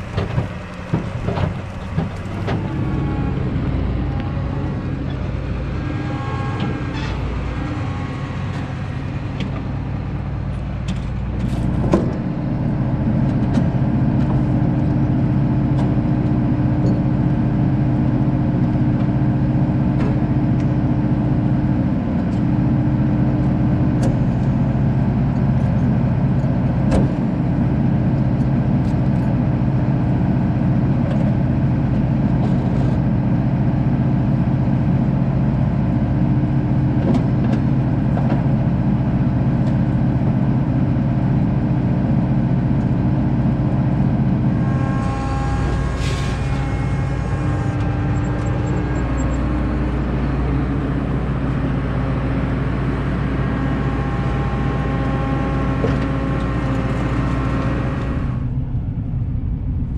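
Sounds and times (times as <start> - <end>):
diesel engine idling: 0.0 - 37.0, 37.6 - 59.9.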